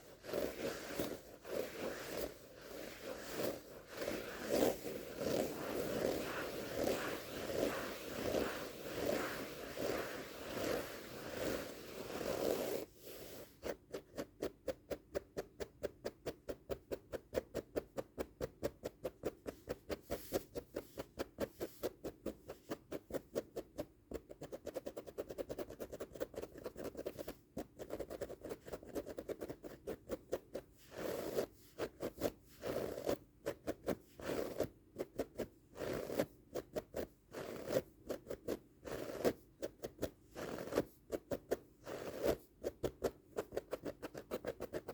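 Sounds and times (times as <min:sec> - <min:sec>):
scratching on carpet rug: 0:00.0 - 0:14.6, 0:19.1 - 0:44.9.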